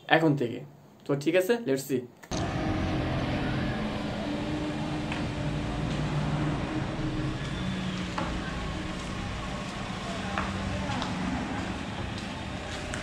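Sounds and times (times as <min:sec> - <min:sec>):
car engine humming: 0:02.3 - 0:13.0.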